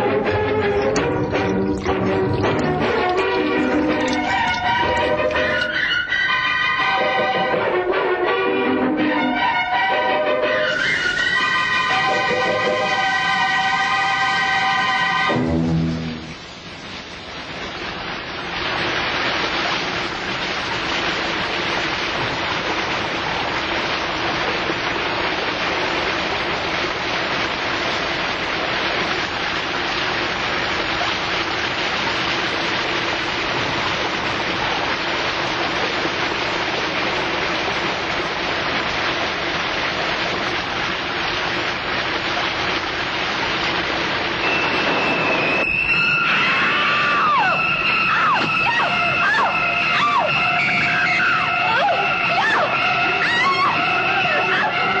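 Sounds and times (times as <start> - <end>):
shower water spraying: 0.0 - 8.1, 9.3 - 55.0.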